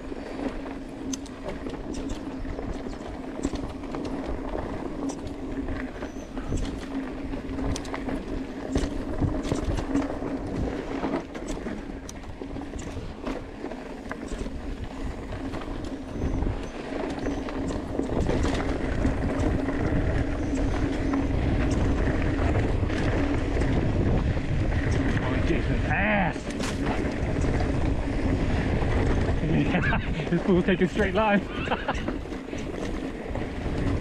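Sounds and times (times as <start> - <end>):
bike tyres crunching over dirt: 0.0 - 34.0
wind rumble on microphone: 0.0 - 34.0.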